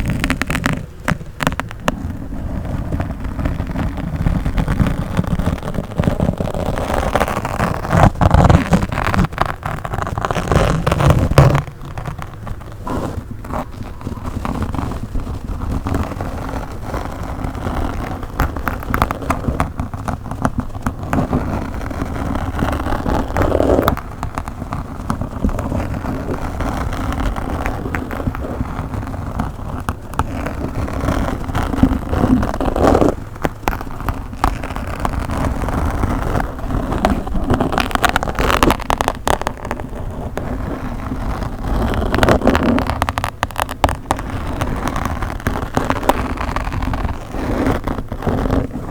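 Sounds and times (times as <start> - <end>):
scratching on microphone: 0.0 - 48.9.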